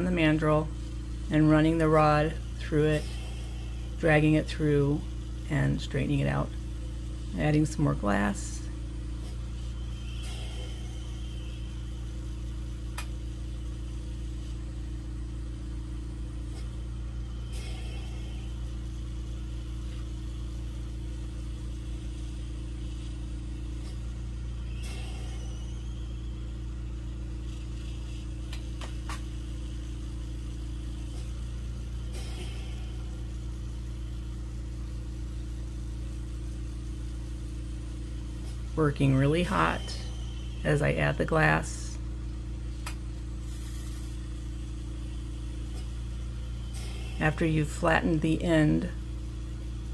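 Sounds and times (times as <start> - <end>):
electric motor humming: 0.0 - 49.9.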